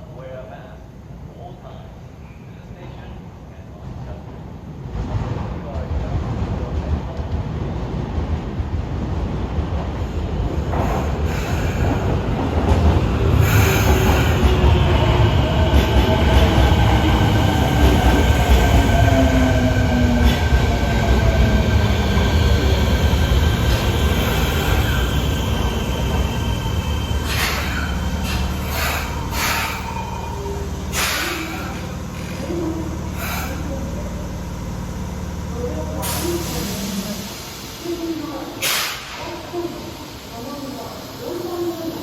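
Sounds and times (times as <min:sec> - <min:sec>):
train running past and braking: 0:04.9 - 0:42.0.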